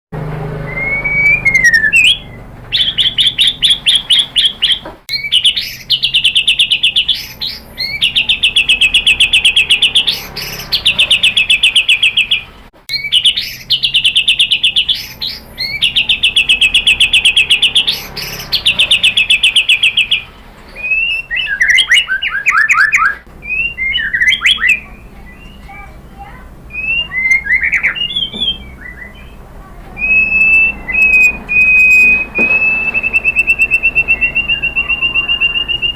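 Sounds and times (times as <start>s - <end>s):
songbird singing high trills: 0.7s - 25.8s, 26.7s - 29.4s, 30.0s - 35.9s.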